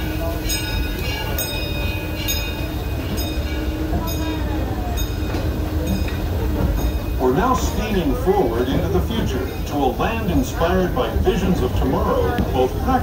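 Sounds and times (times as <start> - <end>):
train rumbling with regular knocks: 0.0 - 13.0.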